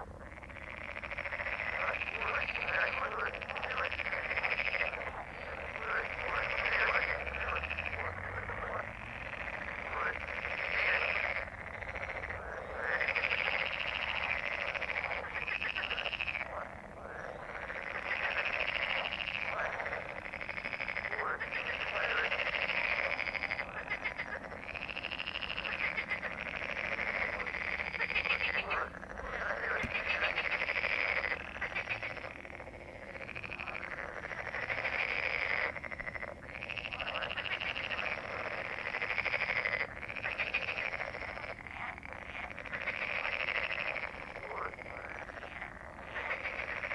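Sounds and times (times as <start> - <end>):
chorus of frogs croaking: 0.0 - 46.9.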